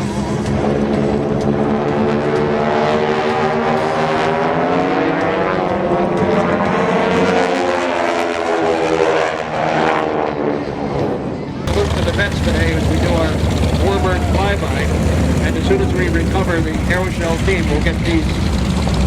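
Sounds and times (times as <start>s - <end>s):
propeller planes droning overhead: 0.0s - 19.0s.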